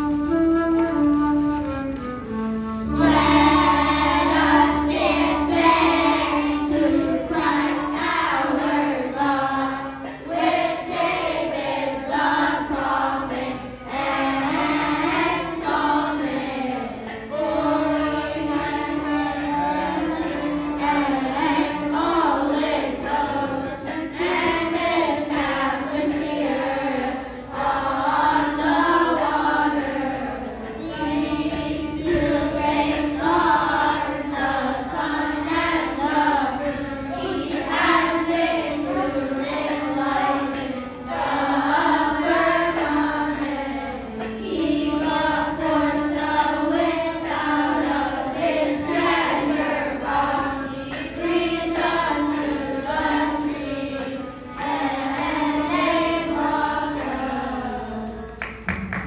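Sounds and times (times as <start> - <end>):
children's choir singing: 0.0 - 59.0
instrumental accompaniment: 0.0 - 59.0.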